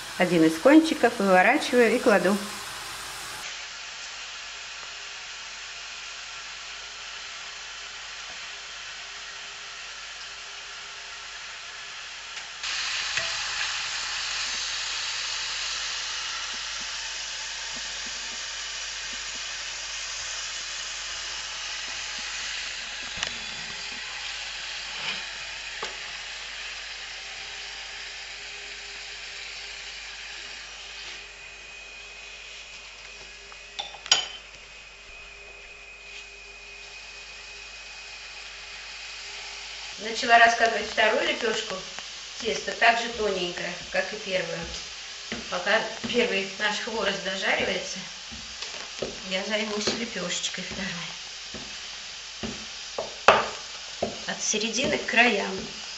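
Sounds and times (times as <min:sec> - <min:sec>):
dough sizzling in hot oil: 0:00.0 - 0:55.9.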